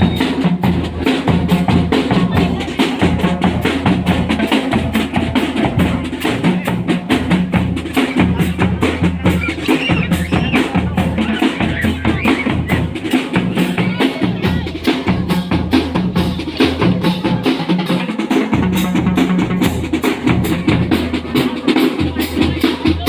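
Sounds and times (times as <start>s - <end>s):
drum-led percussion music: 0.0s - 23.0s.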